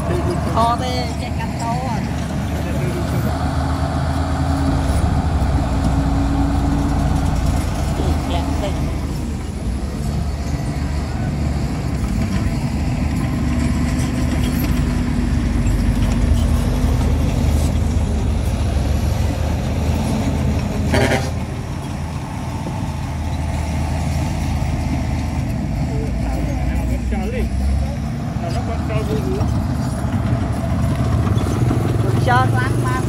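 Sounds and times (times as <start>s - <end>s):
diesel engines running under load: 0.0s - 33.0s.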